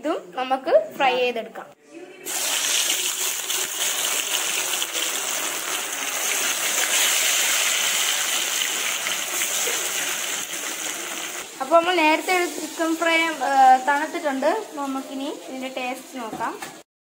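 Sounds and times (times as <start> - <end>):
food deep-frying in oil: 2.3 - 16.3.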